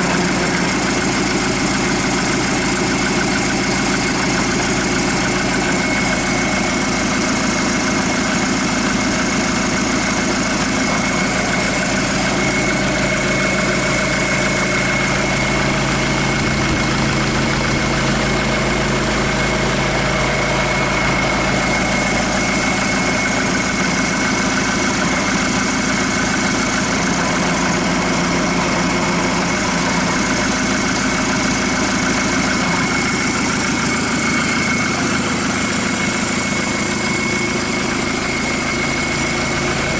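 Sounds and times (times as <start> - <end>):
diesel engine idling: 0.0 - 39.9
high-pitched whine: 5.2 - 39.9.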